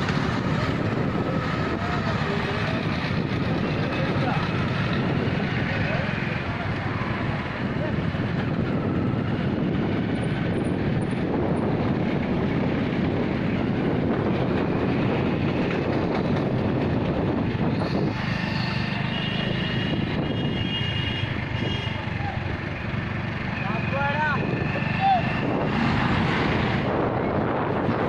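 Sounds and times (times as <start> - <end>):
wind noise on microphone: 0.0 - 21.9, 24.4 - 28.0
loud vehicle rumble: 0.0 - 28.0.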